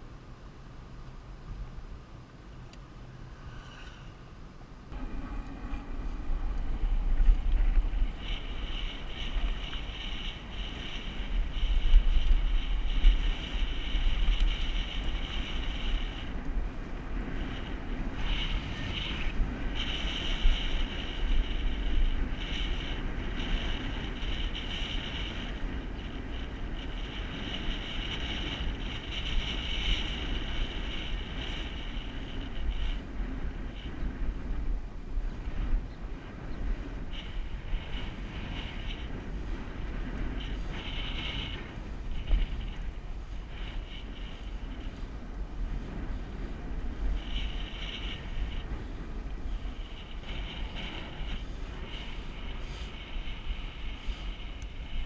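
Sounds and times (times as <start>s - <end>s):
steady high-pitched hiss: 0.0s - 55.0s
wind buffeting microphone: 1.2s - 55.0s.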